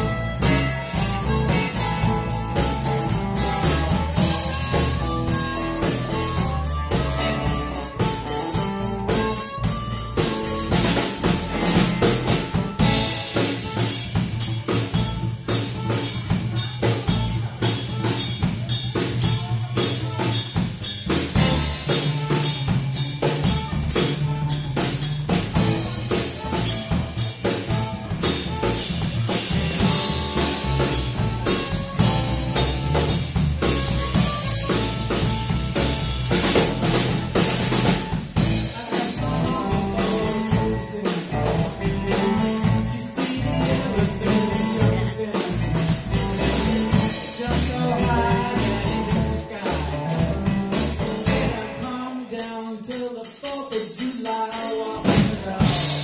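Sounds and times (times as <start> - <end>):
harmonica: 0.0 - 52.2
blues band playing: 0.0 - 56.0
drums keeping a steady beat: 0.0 - 56.0.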